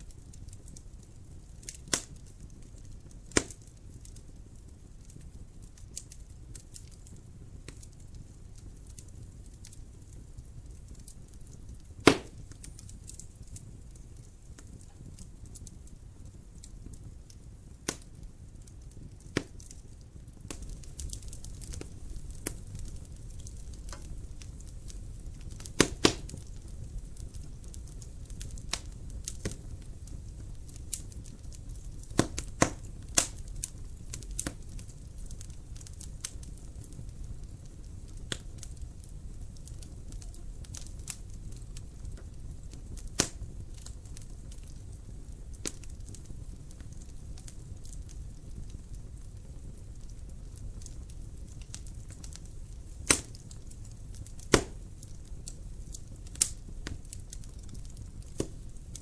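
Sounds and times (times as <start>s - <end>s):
low rumble of flames: 0.0s - 59.0s
wood fire popping: 0.0s - 59.0s.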